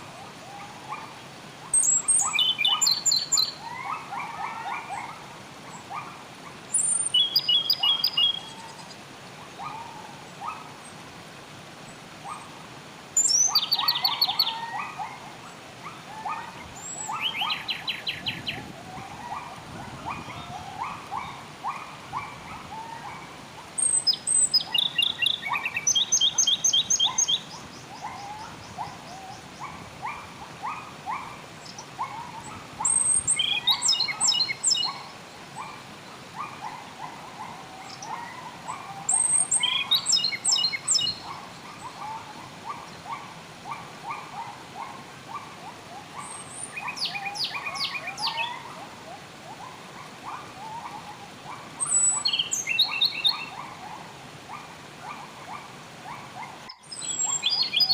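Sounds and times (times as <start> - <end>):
chatter of lower bird calls: 0.0 - 9.0, 13.2 - 54.0.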